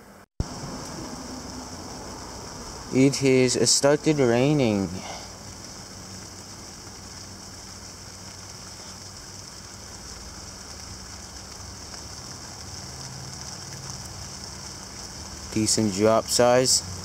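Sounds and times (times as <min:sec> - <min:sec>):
rain falling in large drops: 0:00.1 - 0:17.0.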